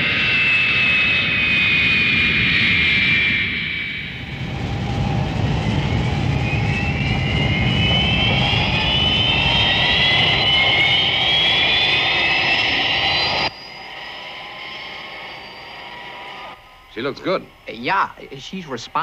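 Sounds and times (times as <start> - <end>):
jet engines whining: 0.0 - 19.0
steady rumble: 3.1 - 19.0.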